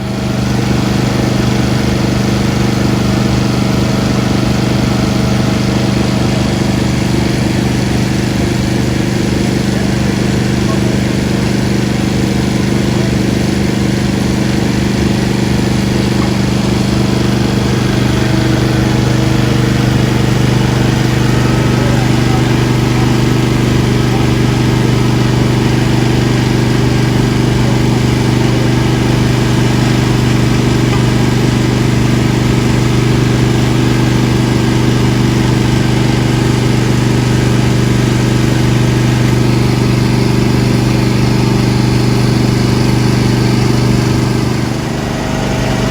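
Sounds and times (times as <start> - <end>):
small engine humming: 0.0 - 45.9.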